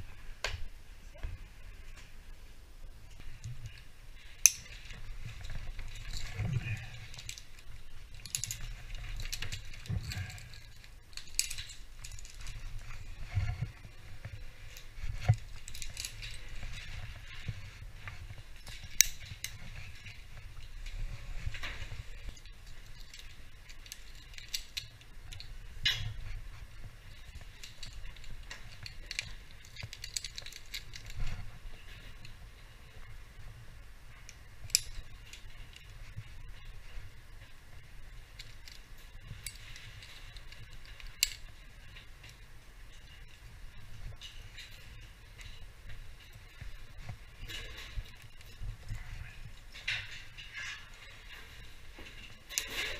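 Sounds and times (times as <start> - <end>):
metal climbing hardware clinking: 3.1 - 33.2, 34.1 - 52.9.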